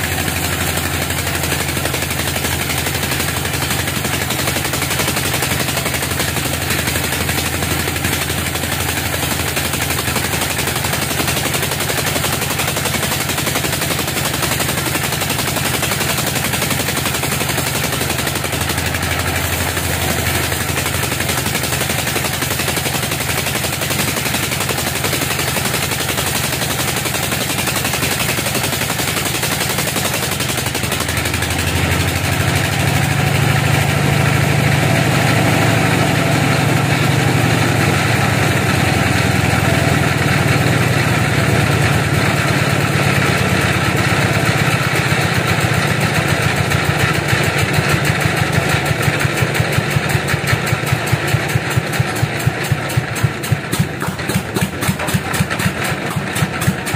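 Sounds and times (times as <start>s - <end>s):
deep engine hum: 0.0s - 11.2s, 16.6s - 24.4s, 27.8s - 56.9s
bandsaw mill sawing log: 0.0s - 56.9s.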